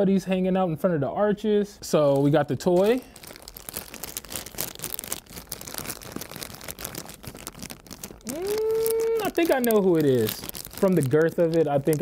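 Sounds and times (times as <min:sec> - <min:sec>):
plastic wrapper crinkling: 0:01.9 - 0:12.0.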